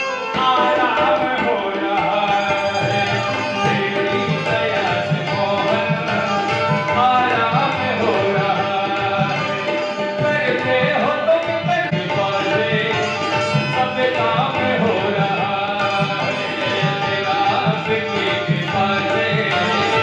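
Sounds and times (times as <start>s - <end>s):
harmonium: 0.0s - 20.0s
tabla drumming: 0.0s - 20.0s.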